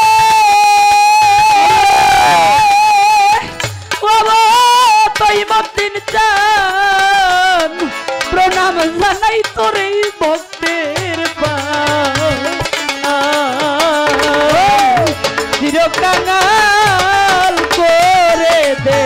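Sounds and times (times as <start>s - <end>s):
hand drums: 0.0s - 19.0s.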